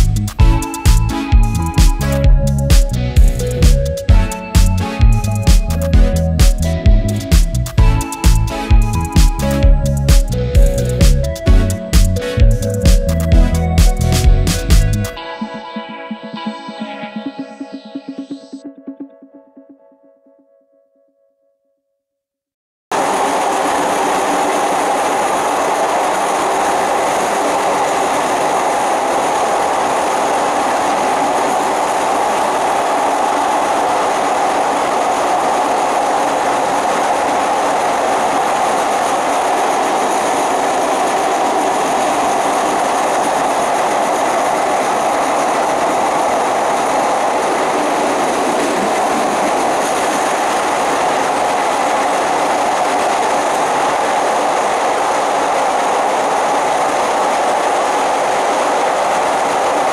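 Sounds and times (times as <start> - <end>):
train wheels on rails: 0.0 - 15.2, 22.9 - 59.9.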